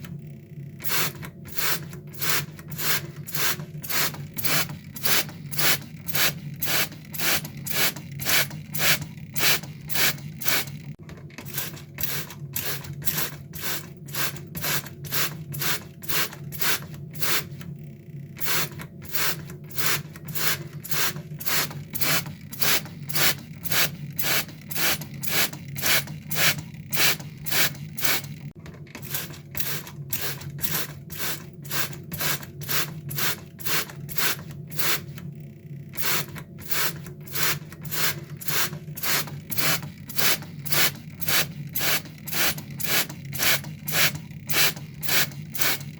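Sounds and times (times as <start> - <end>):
water sprayer hissing bursts: 0.8 - 10.8, 11.6 - 17.6, 18.4 - 28.3, 29.0 - 35.2, 36.0 - 45.9.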